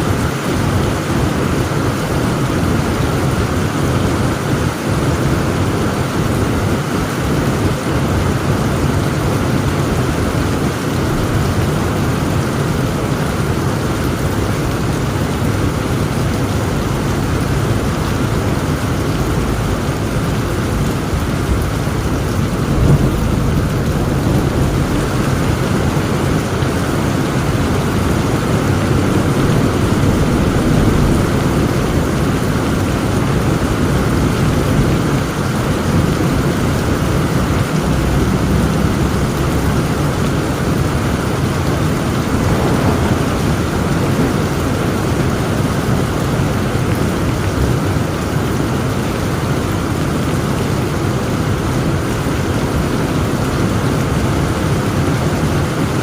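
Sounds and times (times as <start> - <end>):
heavy rain pouring: 0.0 - 56.0
low rolling thunder: 0.1 - 48.6.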